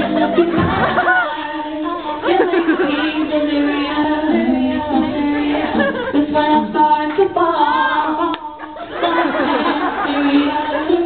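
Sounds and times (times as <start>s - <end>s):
song with woman singing: 0.0s - 11.0s.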